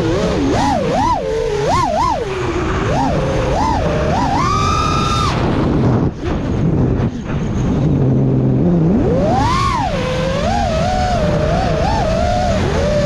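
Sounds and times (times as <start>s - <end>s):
drone motors whining: 0.0s - 13.0s
rushing noise: 0.0s - 13.0s.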